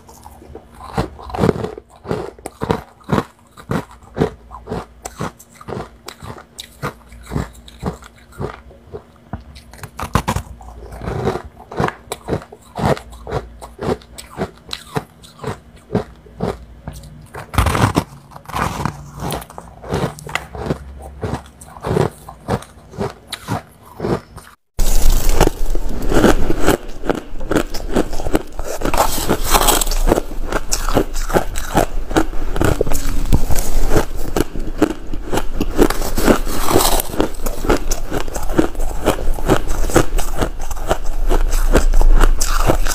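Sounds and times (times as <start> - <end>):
person crunching ice: 0.0 - 8.6, 9.6 - 16.6, 17.4 - 42.9.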